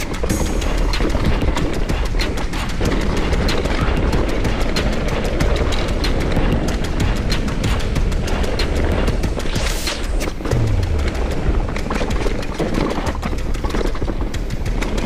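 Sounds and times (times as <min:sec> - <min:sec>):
bike rattling and knocking: 0:00.0 - 0:09.6, 0:10.2 - 0:15.0
wind and tyres rumble: 0:00.0 - 0:15.0.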